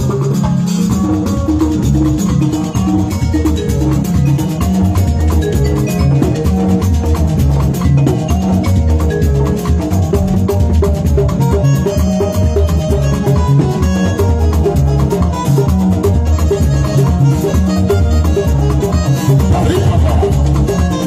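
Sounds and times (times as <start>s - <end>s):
drums and percussion: 0.0s - 21.0s
electronic keyboard playing: 0.0s - 21.0s.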